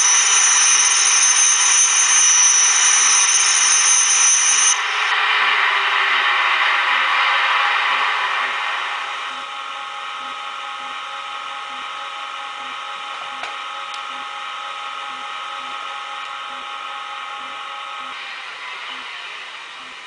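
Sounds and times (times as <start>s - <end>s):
blower-like noise: 0.0s - 20.0s
electric locomotive whine from speaker: 0.0s - 20.0s.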